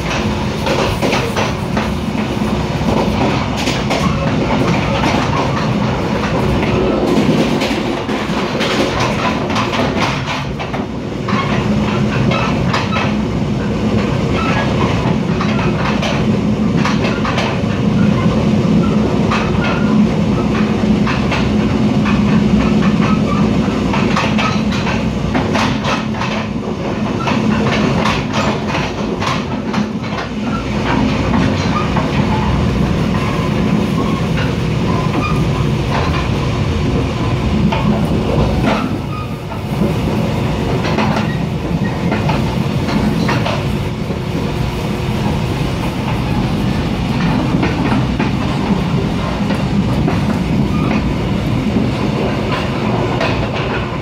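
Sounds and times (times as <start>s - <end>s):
train carriage rumble and hum: 0.0s - 54.0s
wheels clicking on track: 0.0s - 54.0s.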